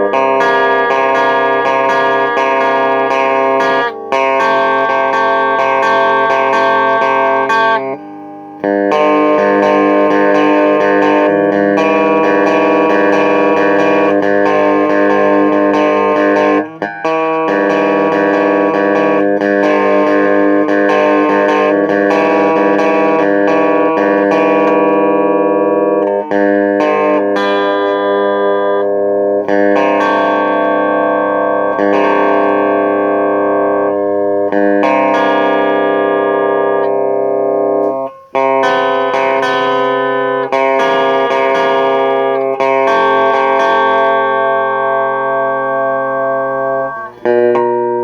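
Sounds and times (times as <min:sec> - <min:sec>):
distorted guitar chords ringing: 0:00.0 - 0:48.0.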